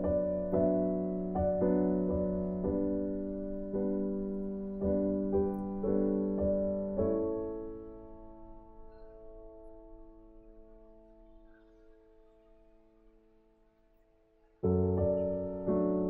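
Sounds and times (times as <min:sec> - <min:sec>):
gentle piano notes: 0:00.0 - 0:16.0.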